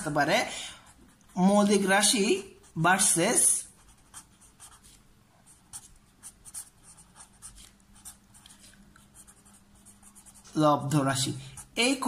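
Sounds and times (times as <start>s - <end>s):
marker pen writing on paper: 0.8s - 10.7s, 11.3s - 12.0s.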